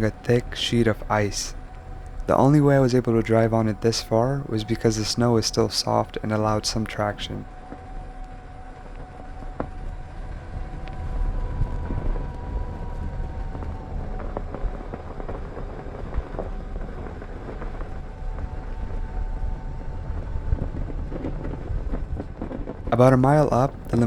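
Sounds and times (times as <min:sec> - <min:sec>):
faint wavering whine: 0:00.0 - 0:24.0.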